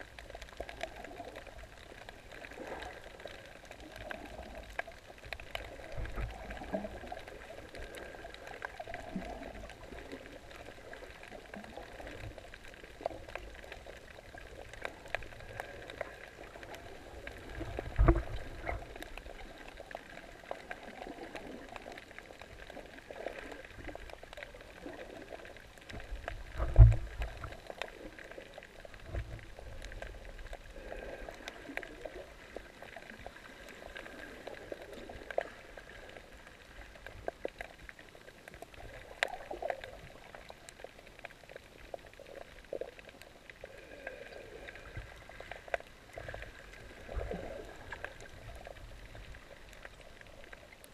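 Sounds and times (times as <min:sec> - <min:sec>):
muffled underwater rush and bubbling: 0:00.0 - 0:50.9.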